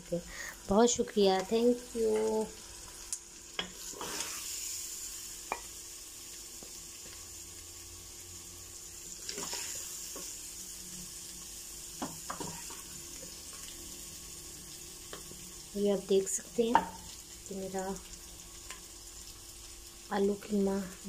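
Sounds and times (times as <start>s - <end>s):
meat and potatoes sizzling in a pot: 0.0s - 21.0s.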